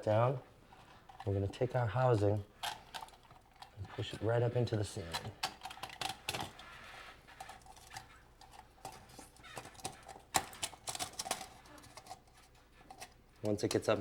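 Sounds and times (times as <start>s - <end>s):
metal light housing clicks and scrapes: 2.2s - 14.0s.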